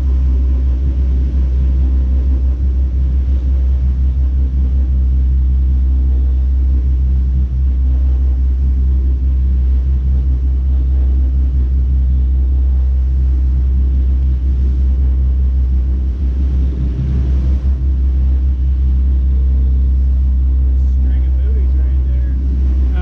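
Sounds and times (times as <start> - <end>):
boat engines droning: 0.0 - 23.0
wake water rushing along hull: 0.0 - 23.0.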